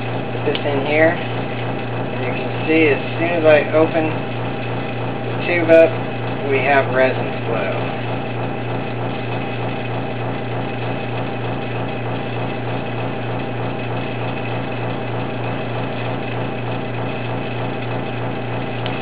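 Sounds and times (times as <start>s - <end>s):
vacuum pump humming: 0.0s - 19.0s.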